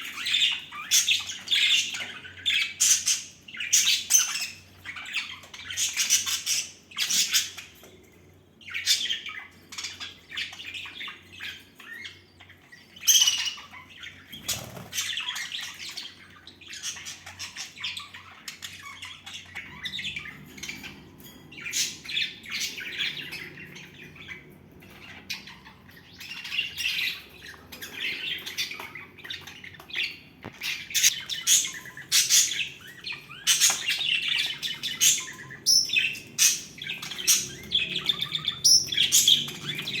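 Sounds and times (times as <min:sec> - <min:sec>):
budgerigars chattering: 0:00.0 - 0:07.8, 0:08.7 - 0:40.0.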